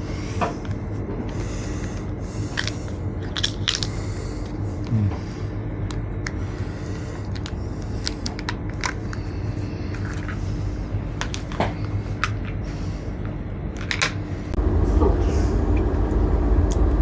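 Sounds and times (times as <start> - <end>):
train running rumble and hum: 0.0 - 17.0.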